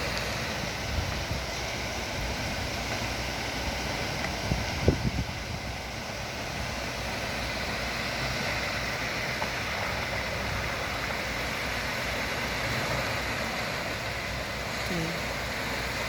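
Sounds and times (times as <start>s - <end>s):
heavy truck engine running: 0.0s - 16.0s
hiss: 0.0s - 16.0s.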